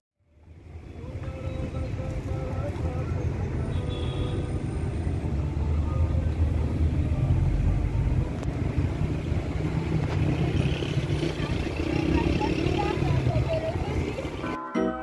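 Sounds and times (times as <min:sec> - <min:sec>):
car engine and tyre rumble: 0:00.2 - 0:14.5.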